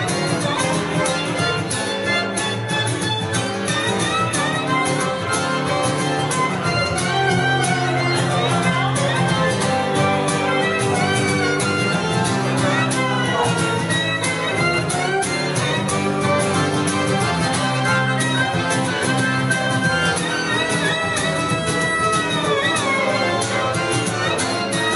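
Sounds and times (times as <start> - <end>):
harmonica playing: 0.0 - 24.9
strummed acoustic guitar: 0.0 - 24.9.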